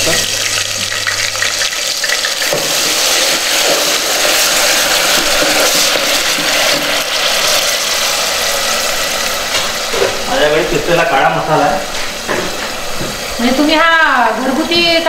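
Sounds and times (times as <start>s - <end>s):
onion paste sizzling in hot oil: 0.0s - 15.0s.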